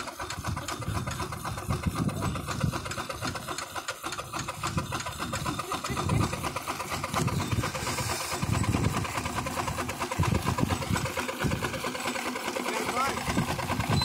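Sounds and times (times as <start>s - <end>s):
mechanical clatter: 0.0s - 14.0s
steam engine exhaust chuffs: 0.0s - 14.0s.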